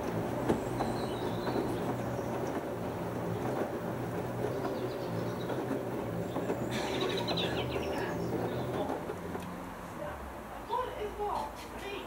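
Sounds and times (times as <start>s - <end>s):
clothes tumbling in washing machine: 0.0s - 9.7s
washing machine motor hum: 0.0s - 10.5s.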